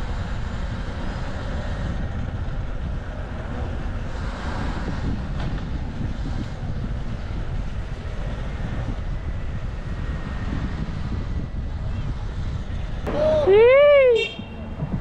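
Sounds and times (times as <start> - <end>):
city street traffic: 0.0 - 15.0
wind buffeting microphone: 0.0 - 15.0.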